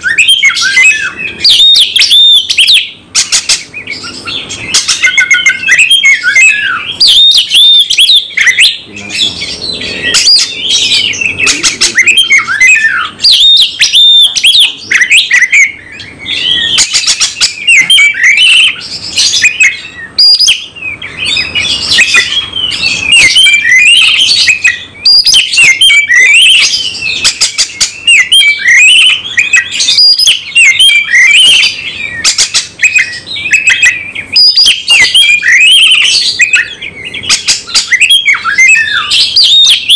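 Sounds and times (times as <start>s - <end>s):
songbird singing whistles and chatter: 0.0s - 39.9s.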